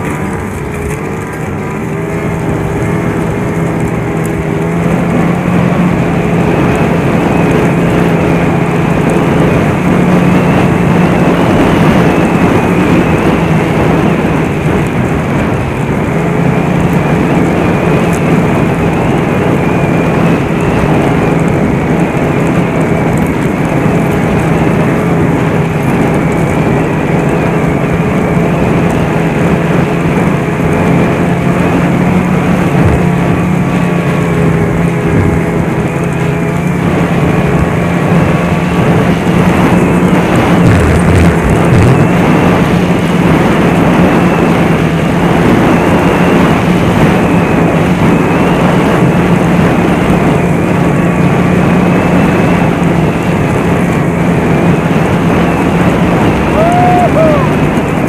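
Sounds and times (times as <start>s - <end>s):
rush of track and air: 0.0s - 58.0s
snowmobile engine running: 0.0s - 58.0s.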